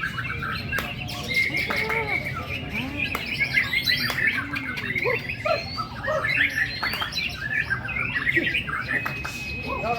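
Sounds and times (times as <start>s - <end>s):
young bird chirping and whistling: 0.0s - 9.9s.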